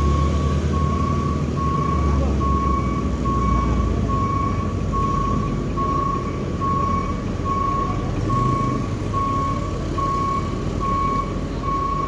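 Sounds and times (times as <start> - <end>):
diesel truck engine rumble: 0.0 - 12.0
truck reversing alarm beeping: 0.0 - 12.0.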